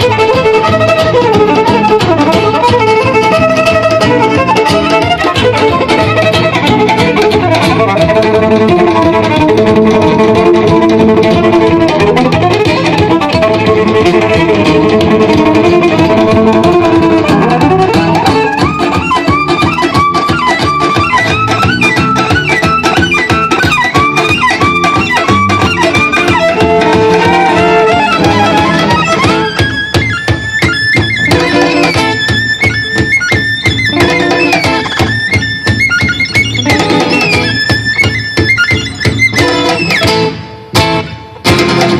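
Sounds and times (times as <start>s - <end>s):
violin sliding notes: 0.0s - 40.7s
violin-led band playing: 0.0s - 41.9s.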